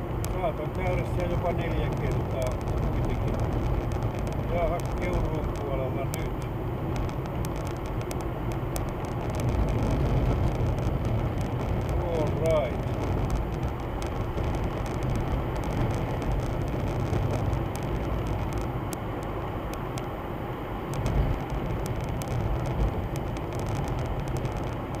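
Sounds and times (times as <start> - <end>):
engine and tyres on snowy road: 0.0 - 25.0
sharp clicks: 0.2 - 20.2.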